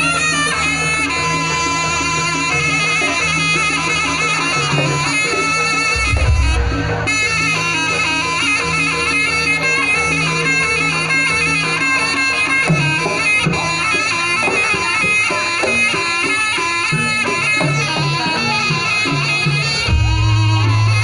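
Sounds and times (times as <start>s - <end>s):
shawm melody: 0.0s - 21.0s
drum strokes: 0.7s - 9.5s, 11.9s - 21.0s.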